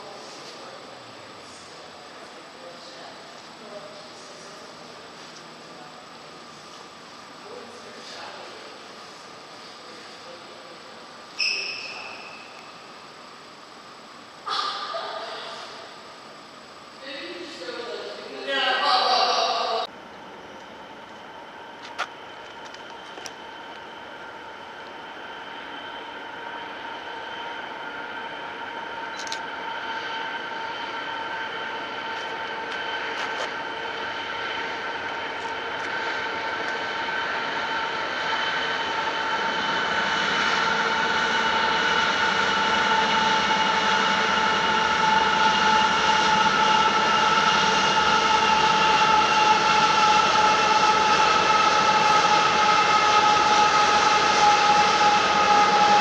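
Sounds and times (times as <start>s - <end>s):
freight train whine: 0.0s - 56.0s.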